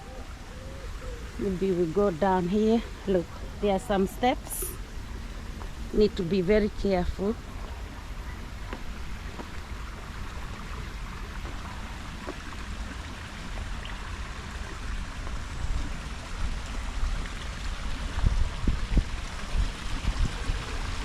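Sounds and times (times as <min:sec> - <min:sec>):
low microphone rumble: 0:00.0 - 0:21.0
water trickling over rocks: 0:00.0 - 0:21.0.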